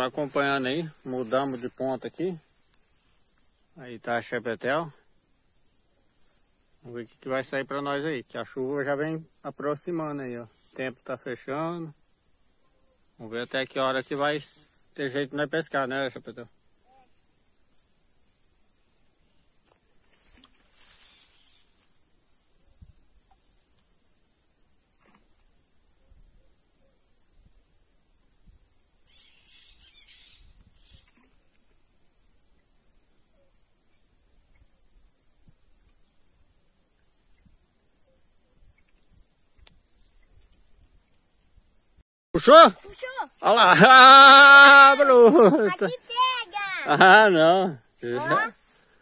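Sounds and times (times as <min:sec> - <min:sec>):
insect chorus trilling: 0:00.0 - 0:49.0.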